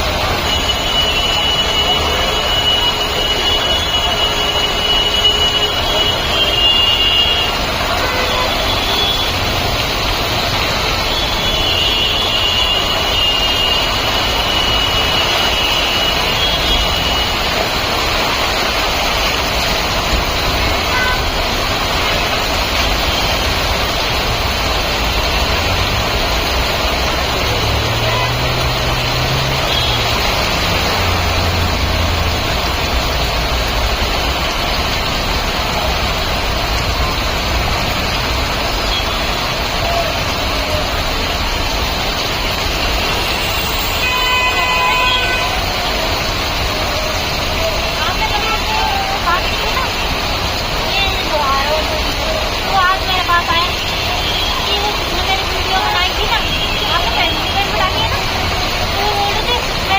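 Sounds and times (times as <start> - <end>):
heavy rain: 0.0 - 59.9
road traffic: 0.0 - 59.9
running water: 0.0 - 59.9.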